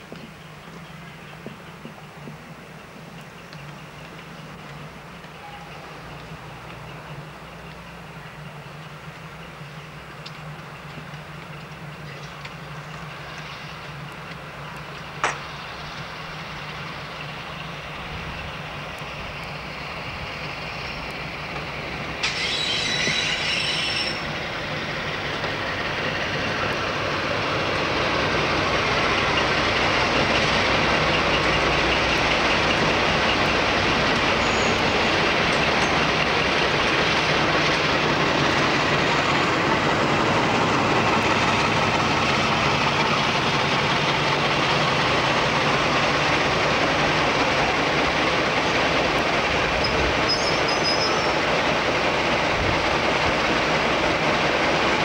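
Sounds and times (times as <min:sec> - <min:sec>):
diesel locomotive running: 0:00.0 - 0:55.0.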